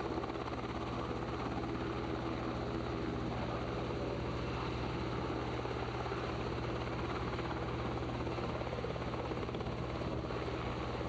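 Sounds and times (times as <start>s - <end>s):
helicopter engine and rotor chop: 0.0s - 11.0s.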